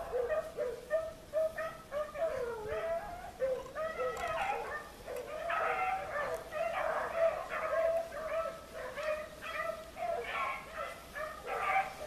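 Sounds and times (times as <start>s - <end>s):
beagles baying and yelping: 0.0s - 12.0s.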